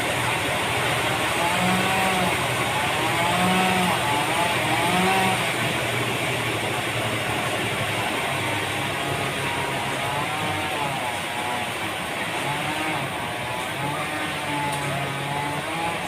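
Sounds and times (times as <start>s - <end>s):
engine hum: 0.0s - 16.0s
sawmill machinery running: 0.0s - 16.0s
wavering machine whine: 0.0s - 16.0s.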